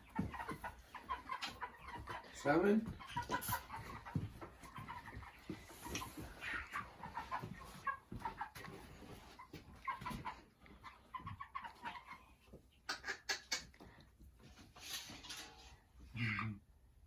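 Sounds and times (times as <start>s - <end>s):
chickens calling: 0.0s - 16.8s.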